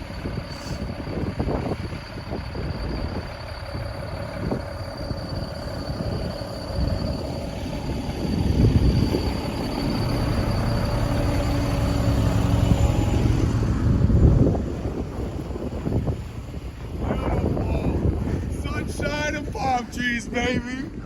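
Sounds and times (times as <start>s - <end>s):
large vehicle passing: 3.9s - 21.0s.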